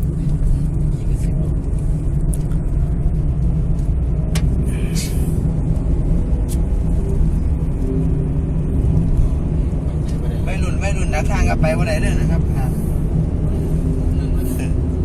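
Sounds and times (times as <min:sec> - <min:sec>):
vehicle rumble with road noise: 0:00.0 - 0:15.0.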